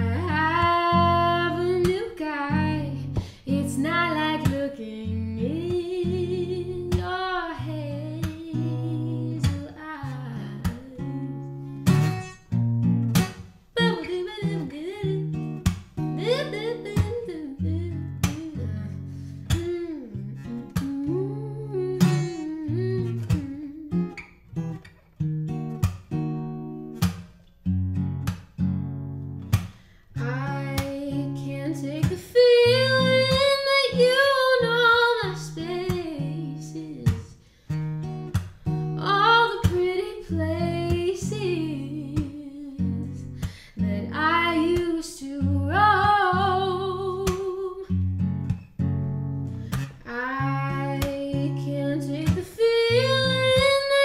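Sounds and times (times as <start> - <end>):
woman singing: 0.0 - 12.2, 13.2 - 24.3, 30.2 - 37.4, 39.0 - 48.1, 49.7 - 54.0
acoustic guitar strumming: 0.0 - 54.0.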